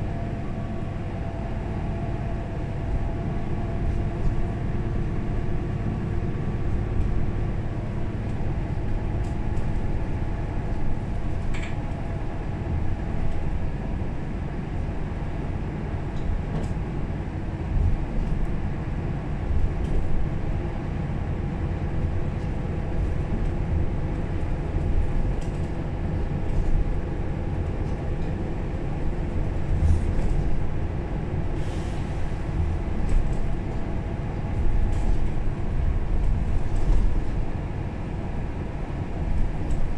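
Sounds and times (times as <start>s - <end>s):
bus engine drone: 0.0s - 39.9s
road rumble: 0.0s - 39.9s.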